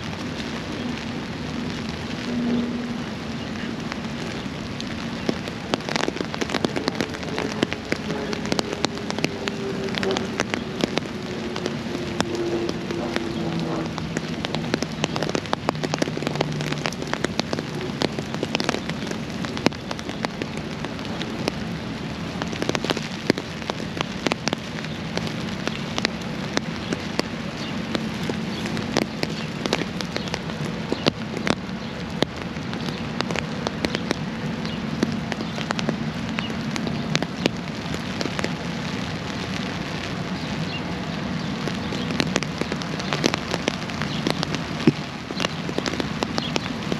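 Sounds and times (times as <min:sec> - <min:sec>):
rain falling: 0:00.0 - 0:46.9
raindrops hitting microphone: 0:00.0 - 0:46.9.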